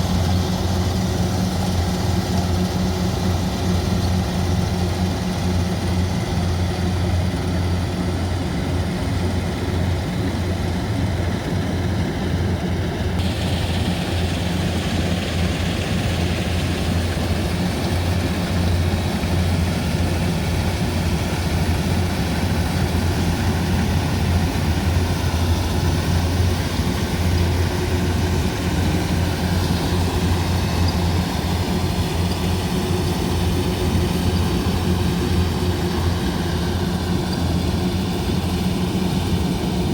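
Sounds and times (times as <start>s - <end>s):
harvester engine humming: 0.0s - 39.9s.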